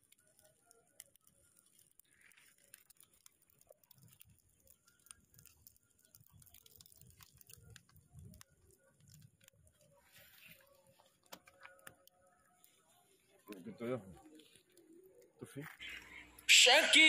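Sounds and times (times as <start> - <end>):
faint fire crackling: 0.0 - 17.0.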